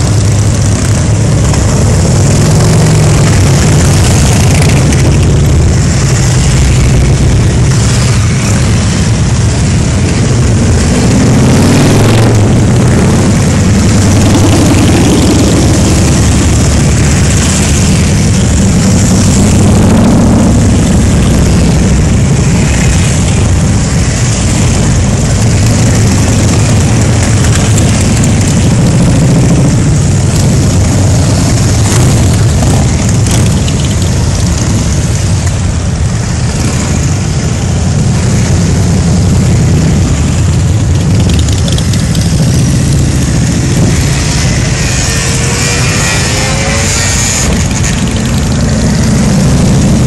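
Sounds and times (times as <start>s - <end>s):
motorcycle engines droning: 0.0s - 50.0s.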